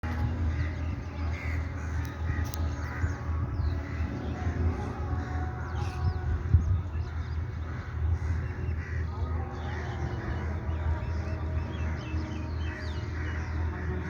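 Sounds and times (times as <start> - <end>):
bird calls: 0.1 - 14.0.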